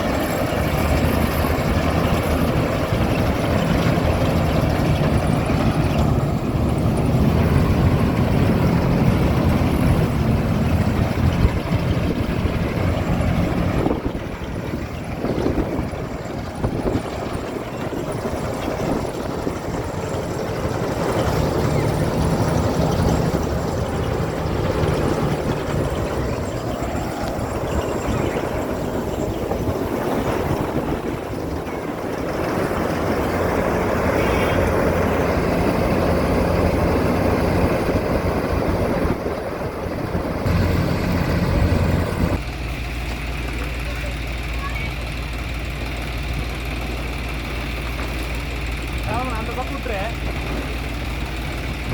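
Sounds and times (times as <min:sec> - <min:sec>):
harvester engine rumble: 0:00.0 - 0:51.9
machinery noise: 0:00.0 - 0:51.9.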